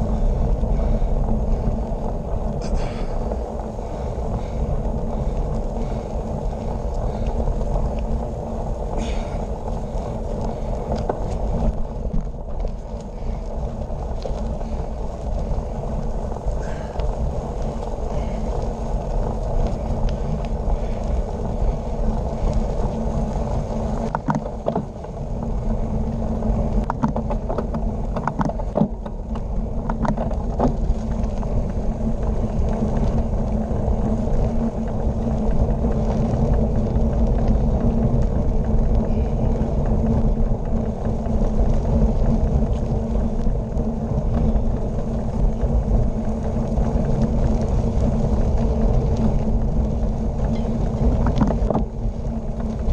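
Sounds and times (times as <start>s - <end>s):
wind and road noise: 0.0s - 52.9s.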